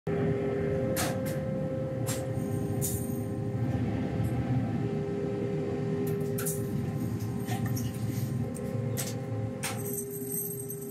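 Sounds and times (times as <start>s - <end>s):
furnace roaring: 0.1s - 10.9s.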